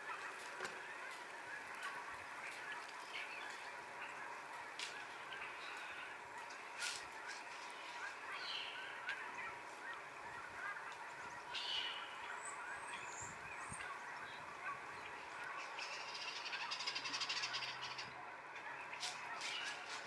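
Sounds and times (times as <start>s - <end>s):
fowl honking: 0.0s - 13.1s, 13.9s - 20.0s
outdoor background noise: 0.0s - 20.0s.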